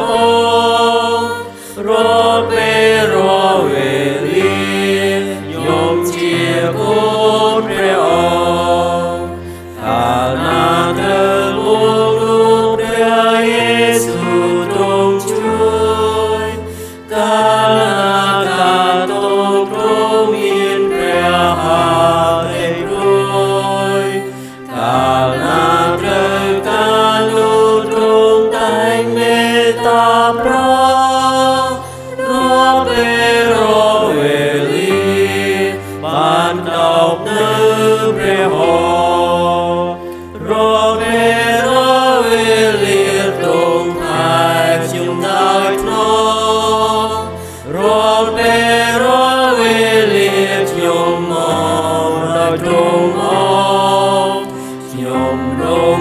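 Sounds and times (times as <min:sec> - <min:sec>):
church choir singing a hymn: 0:00.0 - 0:56.0
instrumental accompaniment: 0:00.0 - 0:56.0.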